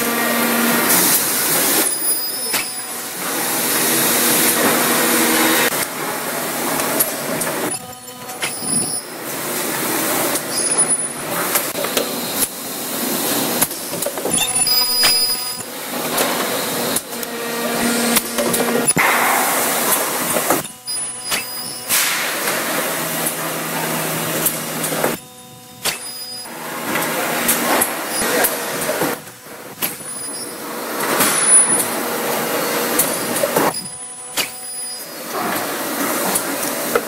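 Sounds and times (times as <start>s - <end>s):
industrial machinery whirring: 0.0s - 37.0s.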